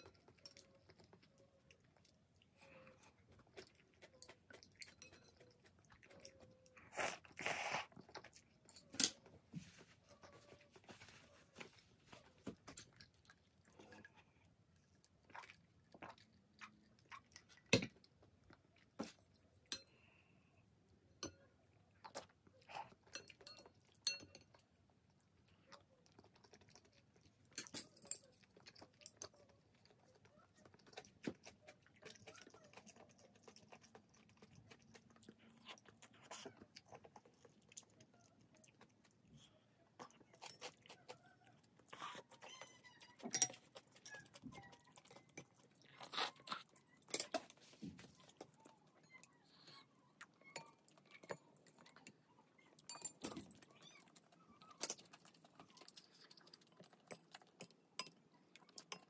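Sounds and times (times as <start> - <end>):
person chewing noodles: 0.0 - 59.0.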